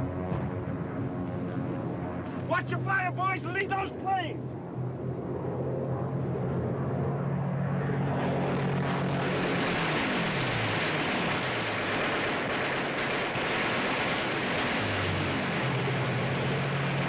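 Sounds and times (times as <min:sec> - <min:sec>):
planes passing with pitch dropping: 0:00.0 - 0:17.0
propeller planes droning overhead: 0:00.0 - 0:17.0.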